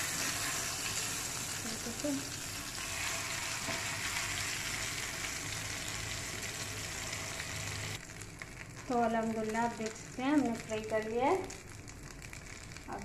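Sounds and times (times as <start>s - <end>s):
chicken sizzling in a frying pan: 0.0s - 13.0s.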